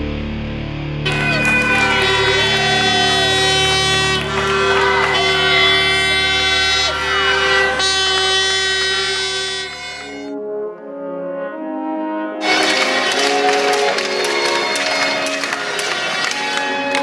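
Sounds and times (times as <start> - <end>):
music with sustained chords: 0.0 - 17.0.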